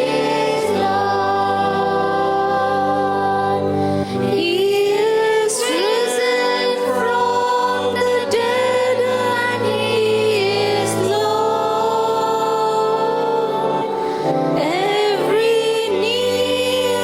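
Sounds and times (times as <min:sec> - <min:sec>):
instrumental accompaniment: 0:00.0 - 0:17.0
person singing with vibrato: 0:00.0 - 0:17.0.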